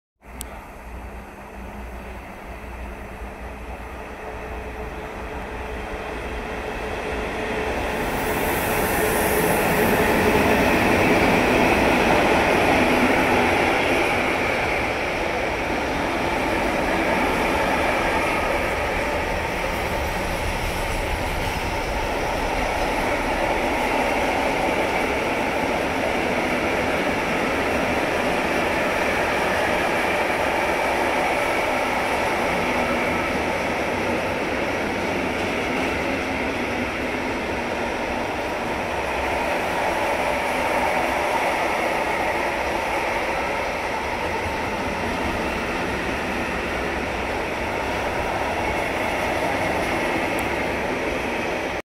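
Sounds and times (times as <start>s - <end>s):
freight train passing: 0.2s - 51.8s.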